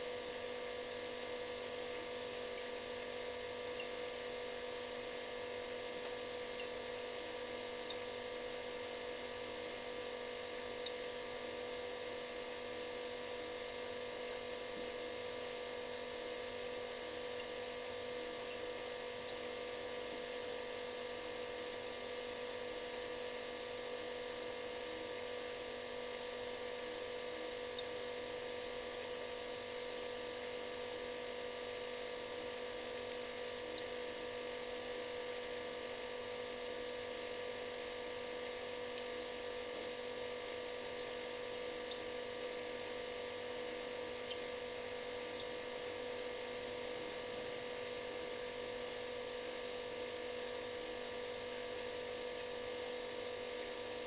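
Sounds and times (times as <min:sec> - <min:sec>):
refrigerator humming: 0:00.0 - 0:54.0.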